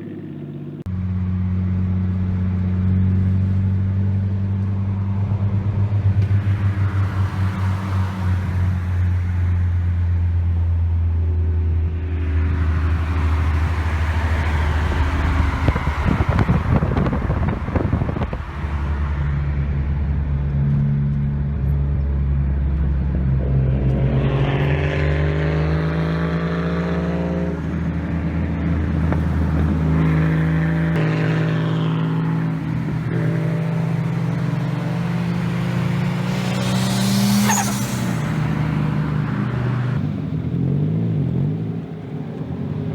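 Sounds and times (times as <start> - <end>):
car engine accelerating: 0.0 - 42.9
tyre and road noise: 0.0 - 42.9.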